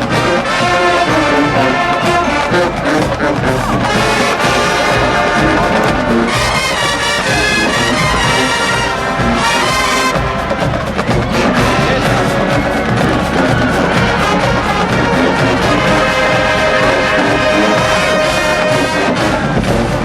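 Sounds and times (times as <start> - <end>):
brass section playing: 0.0 - 20.0
drumline: 0.0 - 20.0.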